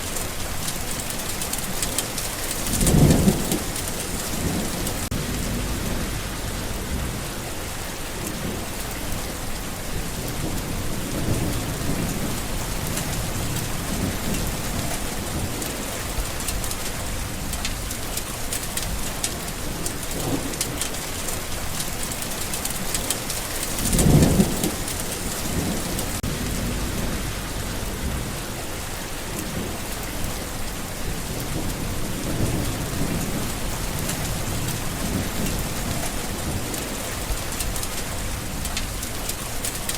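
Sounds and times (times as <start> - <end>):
distant thunder rumbling: 0.0 - 39.6
heavy rain falling: 0.0 - 39.9.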